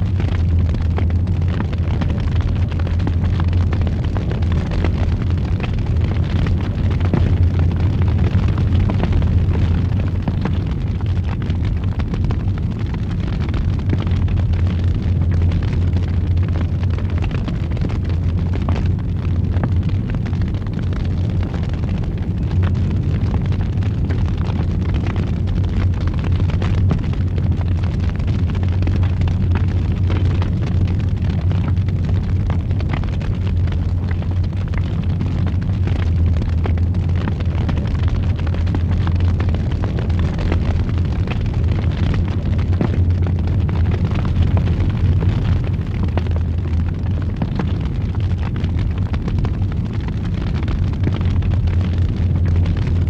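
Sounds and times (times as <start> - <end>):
fire crackles and pops: 0.0 - 53.0
fire roaring in fireplace: 0.0 - 53.0.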